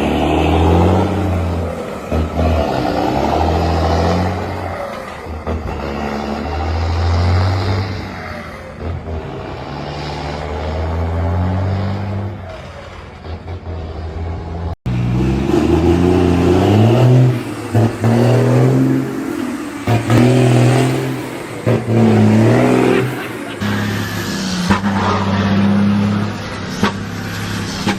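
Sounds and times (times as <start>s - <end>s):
truck diesel engine accelerating: 0.0s - 27.9s.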